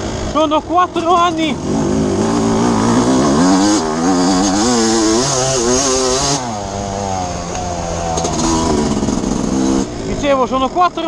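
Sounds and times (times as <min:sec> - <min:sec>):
motocross engine revving: 0:00.0 - 0:11.0.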